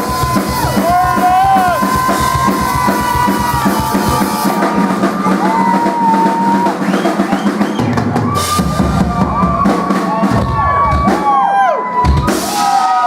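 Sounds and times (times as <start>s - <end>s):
live band music: 0.0s - 12.9s
bass: 0.0s - 13.0s.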